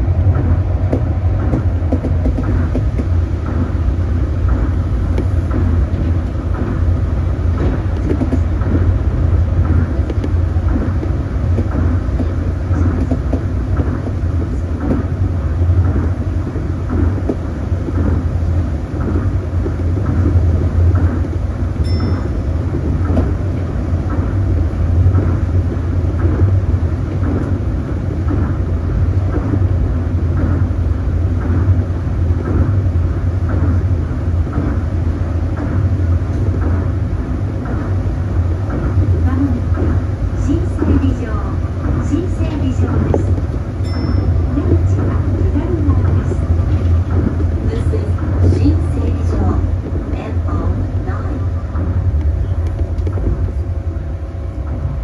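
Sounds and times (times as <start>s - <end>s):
low drone of train motors and tyres: 0.0s - 55.0s.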